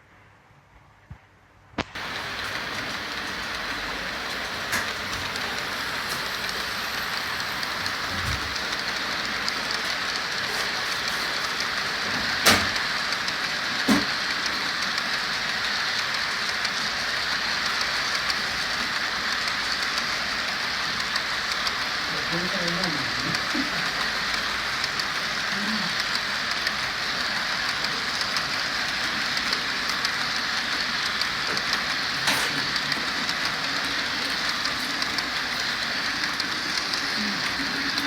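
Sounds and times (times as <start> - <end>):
freight train rolling past: 2.0 - 38.0.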